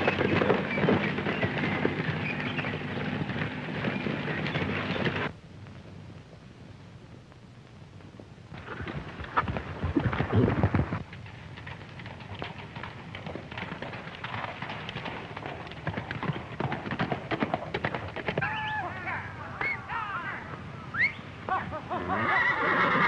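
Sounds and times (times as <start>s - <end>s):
horse hooves galloping: 0.0s - 23.0s.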